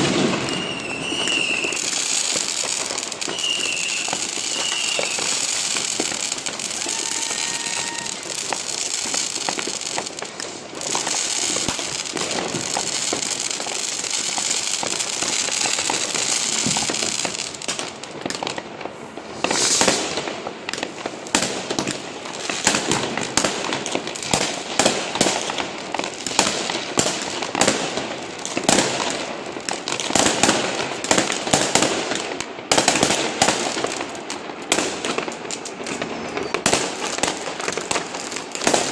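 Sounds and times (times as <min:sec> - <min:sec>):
firecrackers crackling: 0:00.0 - 0:38.9
fireworks bangs: 0:00.0 - 0:38.9.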